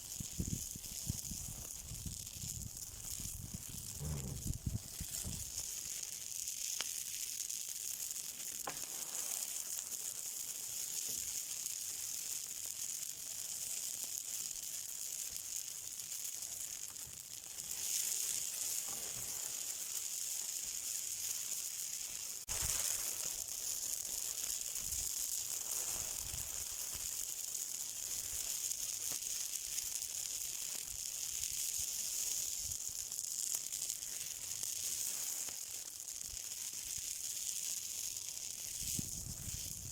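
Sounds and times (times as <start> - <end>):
fire hissing and crackling: 0.0 - 39.9.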